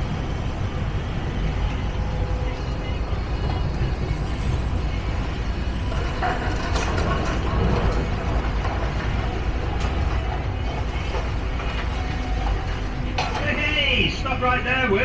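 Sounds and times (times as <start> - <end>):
heavy engines and traffic rumble: 0.0 - 15.0.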